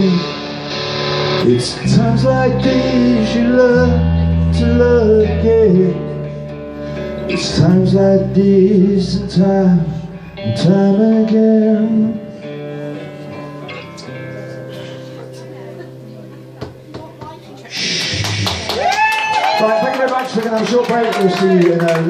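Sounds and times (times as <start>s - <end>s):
rock band playing live: 0.0s - 19.5s.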